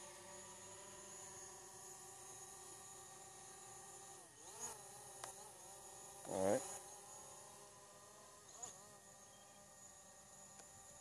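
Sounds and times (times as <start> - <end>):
drone propellers whining: 0.0 - 11.0
motor whine rising in pitch: 0.0 - 11.0.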